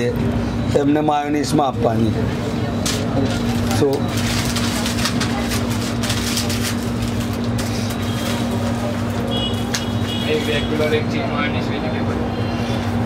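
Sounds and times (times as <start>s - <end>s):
constant hum: 0.0s - 13.0s
road traffic rumble: 0.0s - 13.0s.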